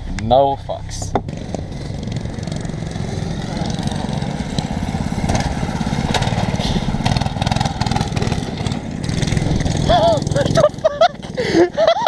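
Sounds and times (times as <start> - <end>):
mini bike engine putter: 1.0 - 11.4.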